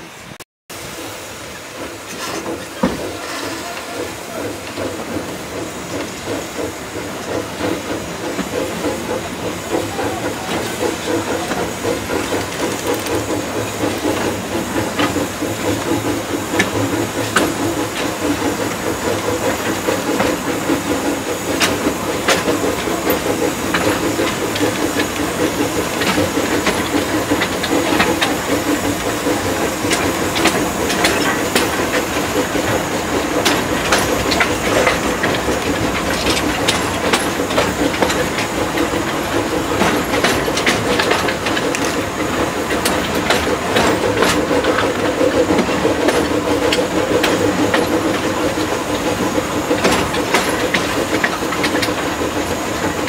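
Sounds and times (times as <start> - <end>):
steam hissing: 0.0 - 53.0
steam locomotive approaching: 0.0 - 53.0.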